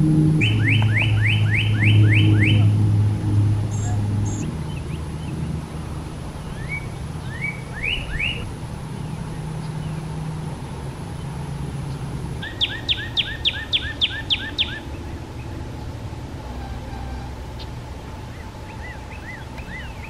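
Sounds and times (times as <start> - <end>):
songbird singing: 0.0 - 20.0
steady low rumble: 0.0 - 20.0.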